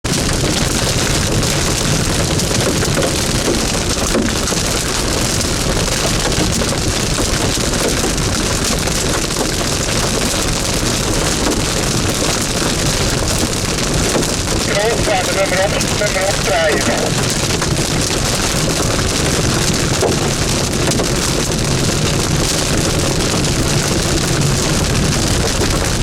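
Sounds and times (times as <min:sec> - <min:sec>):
heavy rain on vehicle roof: 0:00.0 - 0:26.0.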